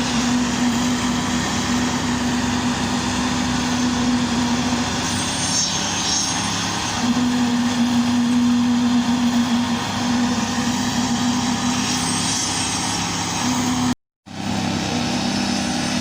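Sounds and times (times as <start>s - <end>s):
brief high whine: 0.0s - 16.0s
heavy machinery engine running: 0.0s - 16.0s.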